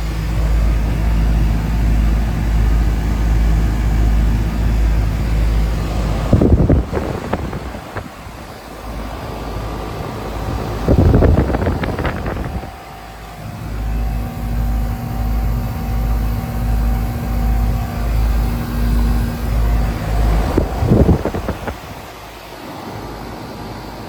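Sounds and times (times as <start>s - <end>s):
air conditioner units humming: 0.0s - 24.0s.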